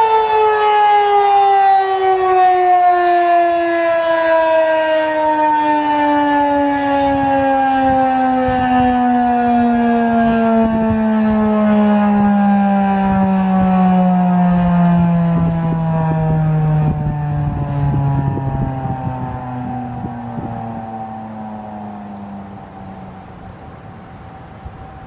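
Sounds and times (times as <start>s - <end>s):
mechanical siren winding down: 0.0s - 25.0s.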